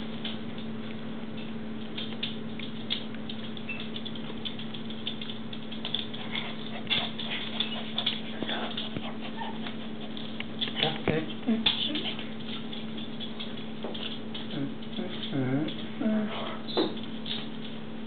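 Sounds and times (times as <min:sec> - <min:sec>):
puppy paws pattering on pads: 0:00.0 - 0:18.0
steady low hum: 0:00.0 - 0:18.0.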